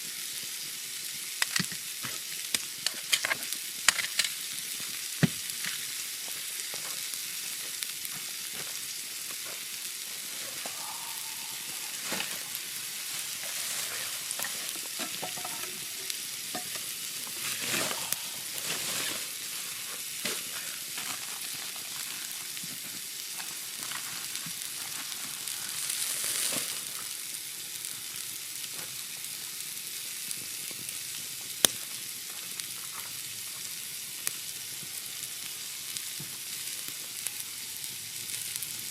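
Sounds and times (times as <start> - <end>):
steak sizzling on griddle: 0.0 - 38.9.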